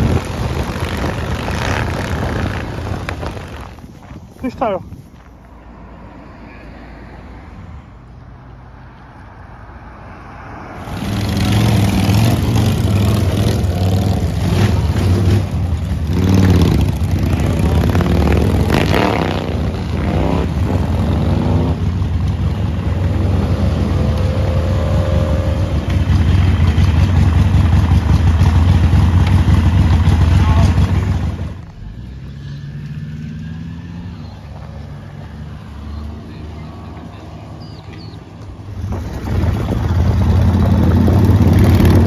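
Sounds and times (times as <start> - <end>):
motorcycle engine rumble: 0.0 - 5.7, 10.8 - 42.0
motorcycles revving and pulling away: 0.0 - 42.0.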